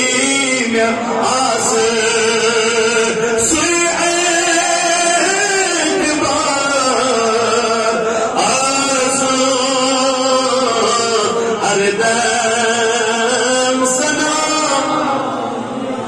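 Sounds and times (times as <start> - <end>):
man singing devotional chant: 0.0 - 15.4.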